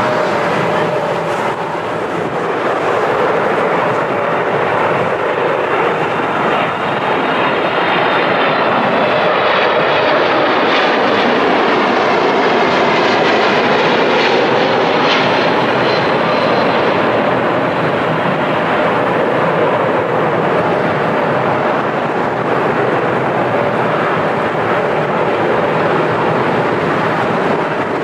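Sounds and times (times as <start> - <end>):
faint engine whine: 0.0 - 27.6
jet engines roaring: 0.0 - 28.0.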